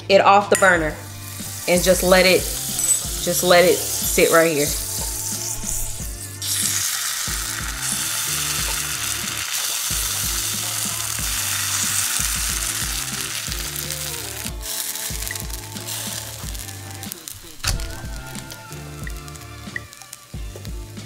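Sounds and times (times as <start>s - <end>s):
low background music: 0.0s - 21.0s
batter sizzling in a frying pan: 1.0s - 21.0s.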